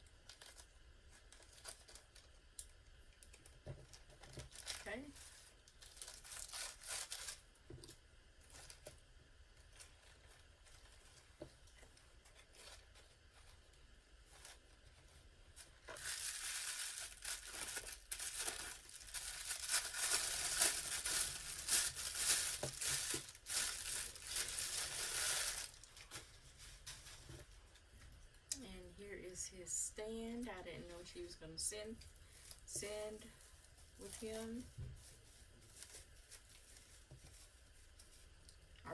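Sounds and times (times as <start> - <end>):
plastic bag rustling: 0.2 - 2.4, 3.3 - 28.0, 31.8 - 38.6
tissue paper crinkling: 0.2 - 2.4, 3.3 - 7.6, 8.3 - 27.6, 31.8 - 38.7.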